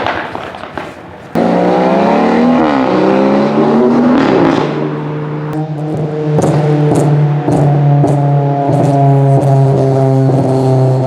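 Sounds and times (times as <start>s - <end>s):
exhaust pops: 0.0s - 11.0s
race car engine revving: 1.3s - 11.0s.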